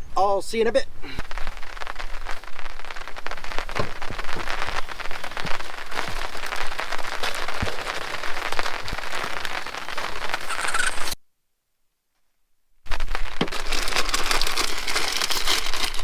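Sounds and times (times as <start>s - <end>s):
rain falling: 1.0s - 11.2s, 12.9s - 16.0s.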